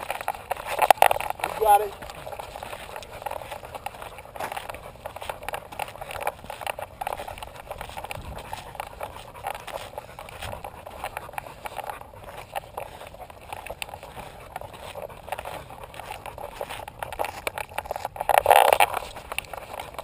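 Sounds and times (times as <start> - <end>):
camera rubbing against dog: 0.0 - 20.0
paw steps on dry dirt: 0.0 - 20.0.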